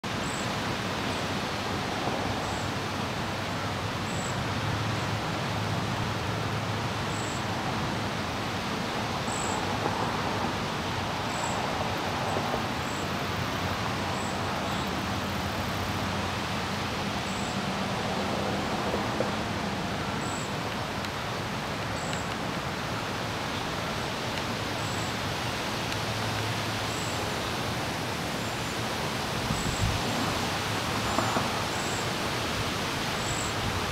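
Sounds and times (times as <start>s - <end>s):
steady outdoor hiss: 0.0s - 33.9s.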